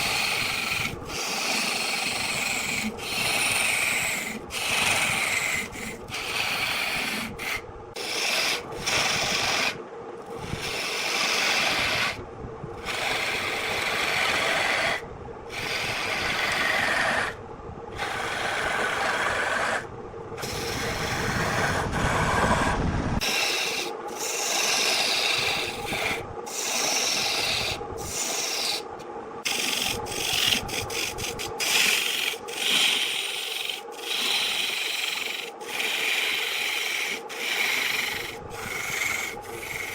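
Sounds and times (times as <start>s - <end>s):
faint steady hum: 0.0s - 39.9s
tool scraping spinning wood: 0.0s - 39.9s.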